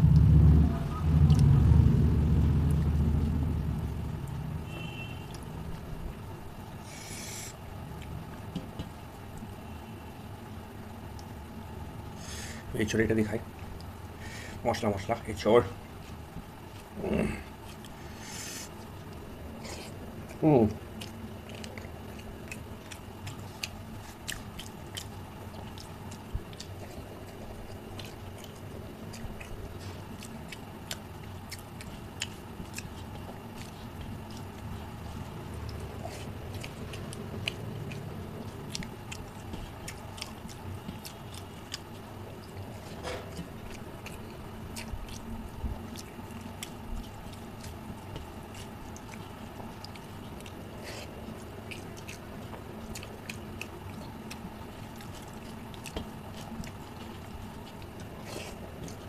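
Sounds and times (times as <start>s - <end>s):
wet squishes of food mixing: 0.0s - 59.0s
chewing and lip smacking: 2.6s - 3.4s, 6.8s - 9.6s, 13.4s - 14.2s, 15.8s - 59.0s.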